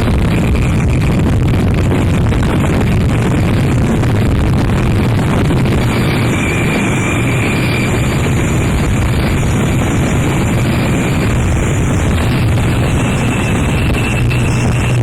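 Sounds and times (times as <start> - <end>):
distorted noise music: 0.0 - 15.0
low droning hum: 0.0 - 15.0.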